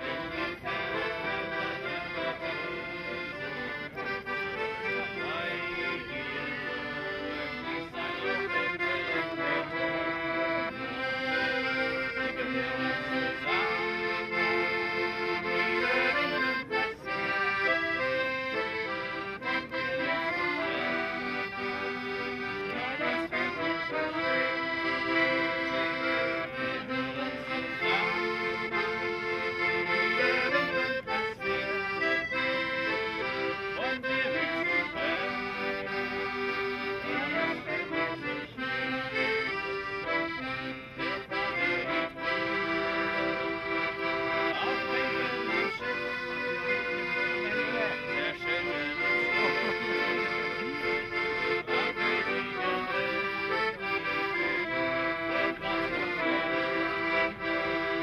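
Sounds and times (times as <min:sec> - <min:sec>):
accordion music: 0:00.0 - 0:58.0.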